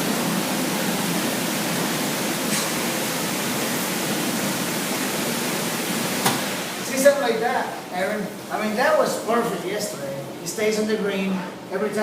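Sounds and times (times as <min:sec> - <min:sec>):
dishwasher water spraying: 0:00.0 - 0:10.0.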